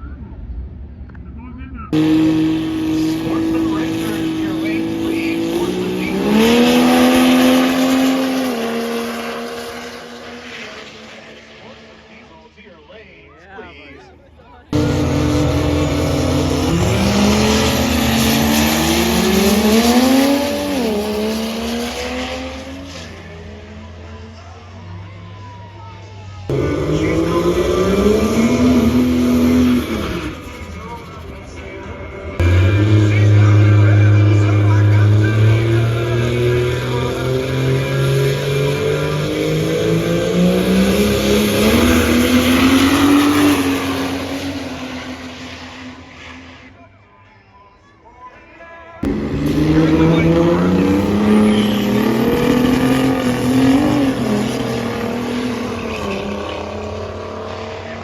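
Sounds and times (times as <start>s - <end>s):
diesel truck engine accelerating: 1.8s - 12.8s, 14.5s - 46.9s, 48.9s - 58.0s.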